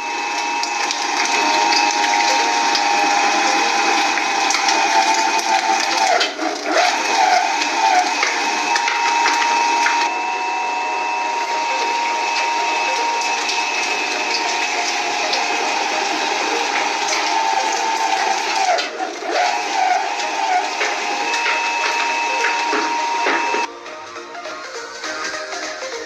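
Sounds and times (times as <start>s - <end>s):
shredder motor whine: 0.0s - 23.7s.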